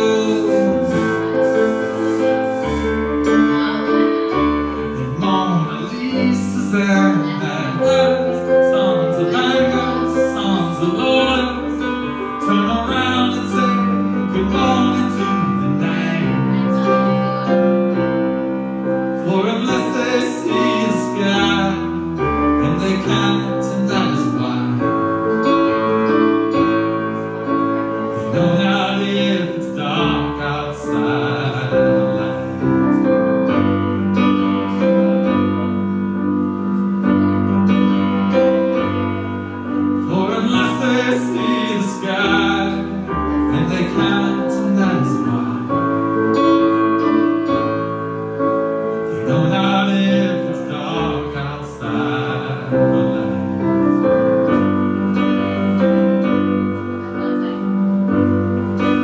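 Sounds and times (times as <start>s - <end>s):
man singing: 0.0s - 18.2s, 18.8s - 47.9s, 49.0s - 56.7s
piano chords and bass notes: 0.0s - 59.0s.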